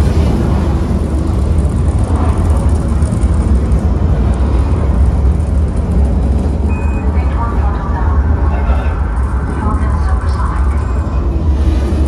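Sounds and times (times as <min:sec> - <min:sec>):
deep rumble through speakers: 0:00.0 - 0:12.0.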